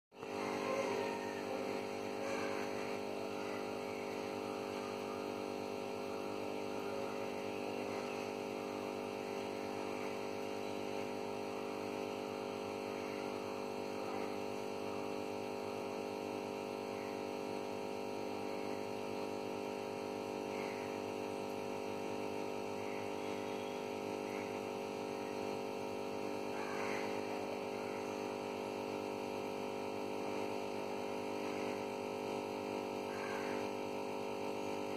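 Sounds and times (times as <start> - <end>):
aquarium pump humming: 0.2 - 34.9.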